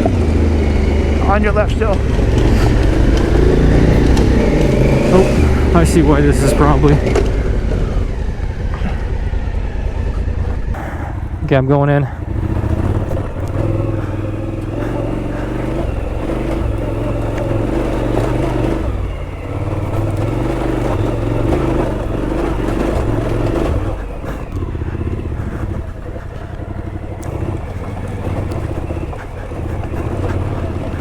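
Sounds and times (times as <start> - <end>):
motorcycle engine at low revs: 0.0 - 31.0.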